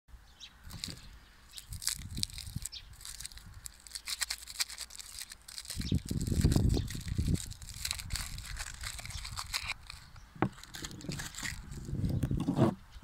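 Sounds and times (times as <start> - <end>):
lollipop wrapper crackling: 0.6 - 12.2.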